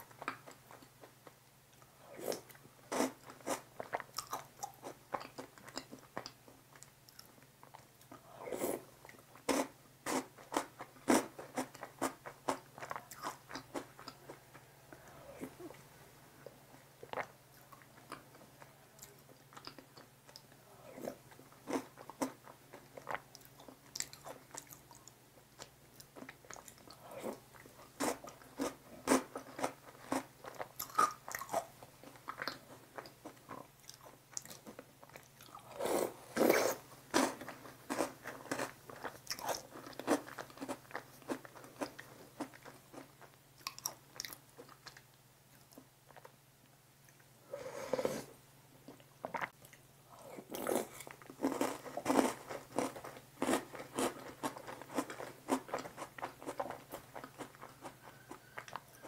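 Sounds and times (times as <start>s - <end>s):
crunching and wet chewing: 0.0s - 8.3s, 9.0s - 15.8s, 17.0s - 46.4s, 48.9s - 59.0s.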